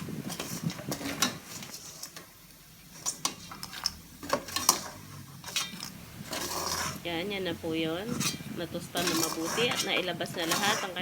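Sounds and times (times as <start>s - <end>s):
metal utensil scraping a pot: 0.0s - 11.0s.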